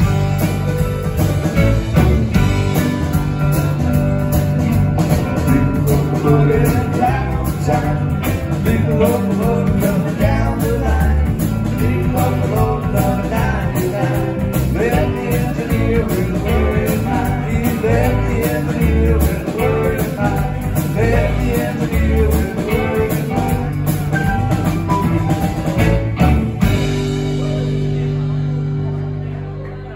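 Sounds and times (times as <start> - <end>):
country-rock band playing: 0.0 - 29.9.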